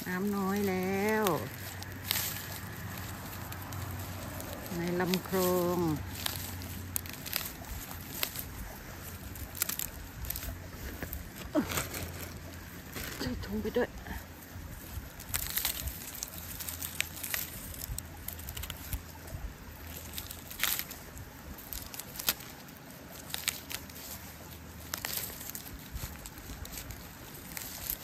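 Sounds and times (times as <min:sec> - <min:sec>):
bag being handled: 0:00.0 - 0:28.0
low steady rumble: 0:00.0 - 0:28.0
rustling through undergrowth: 0:00.0 - 0:28.0
twigs crackling and snapping: 0:00.0 - 0:28.0.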